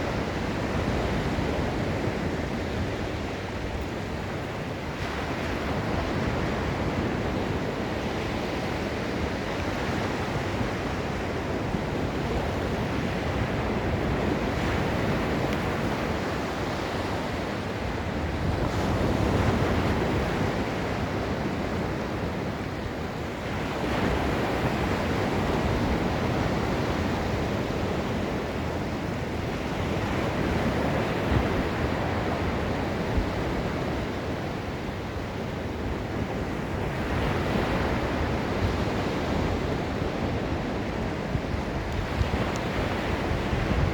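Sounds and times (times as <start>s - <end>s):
surf washing onto beach: 0.0s - 43.9s.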